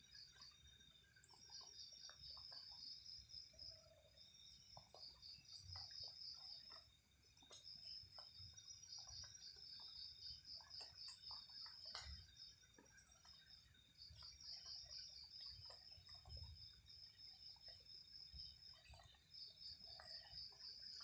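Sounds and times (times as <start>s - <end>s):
insects trilling: 0.0s - 21.0s
soft ticks and clicks: 0.0s - 21.0s.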